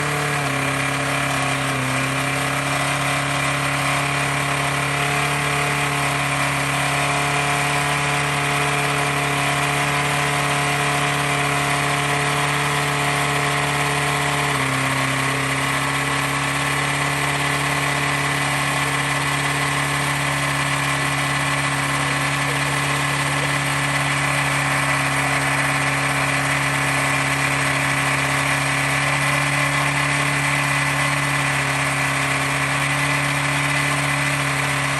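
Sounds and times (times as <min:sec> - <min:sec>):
car engine idling: 0:00.0 - 0:34.9
engine knocking: 0:00.0 - 0:34.9.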